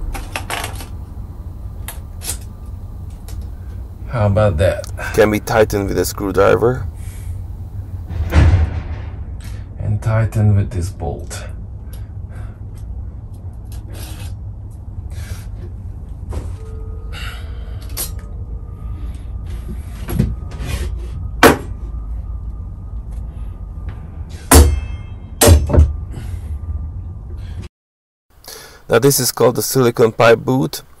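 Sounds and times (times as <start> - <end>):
steady low hum: 0.0 - 27.7.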